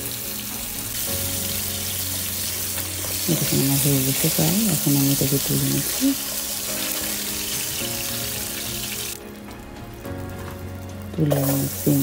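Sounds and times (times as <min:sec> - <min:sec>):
oil sizzling in a frying pan: 0:00.0 - 0:12.0
soft background music: 0:00.0 - 0:12.0.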